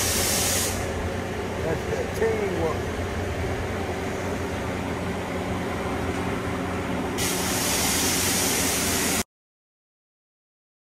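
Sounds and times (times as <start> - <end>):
low machine hum: 0.0 - 9.2.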